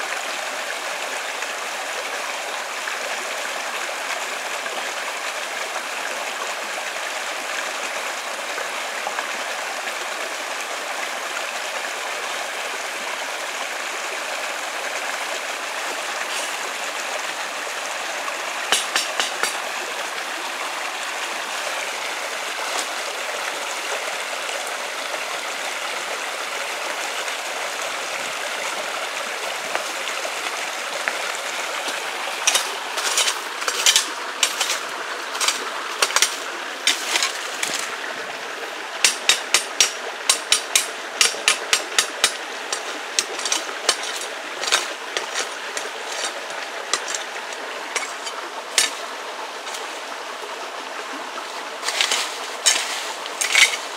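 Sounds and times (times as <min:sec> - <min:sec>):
running water rushing: 0:00.0 - 0:53.9.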